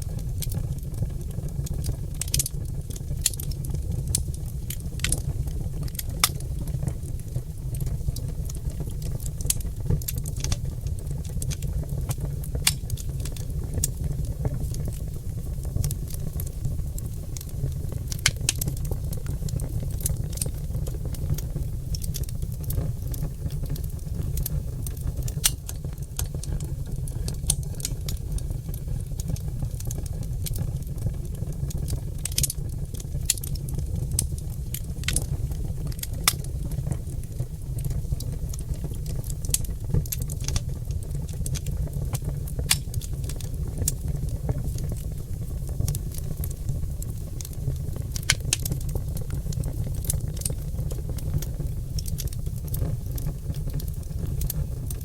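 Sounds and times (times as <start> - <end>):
fire low rumble: 0.0 - 55.0
fire popping: 0.0 - 55.0
logs crackling in a fireplace: 0.0 - 55.0.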